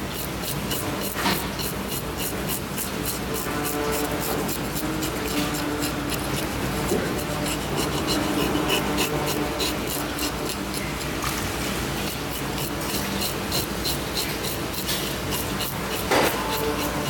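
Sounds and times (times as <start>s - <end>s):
knife scraping fish scales: 0.0s - 17.0s.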